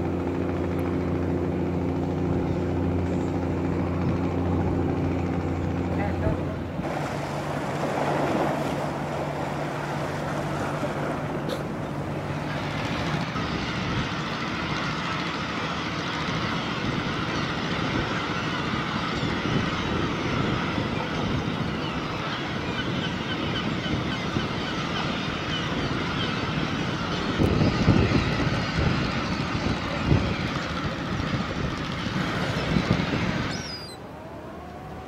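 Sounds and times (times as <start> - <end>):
boat engine running: 0.0 - 35.0
wind on microphone: 1.0 - 35.0.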